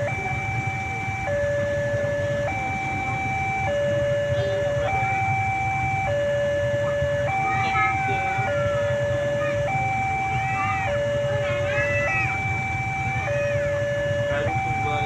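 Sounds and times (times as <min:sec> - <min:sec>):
level crossing two-tone warning: 0:00.0 - 0:15.0.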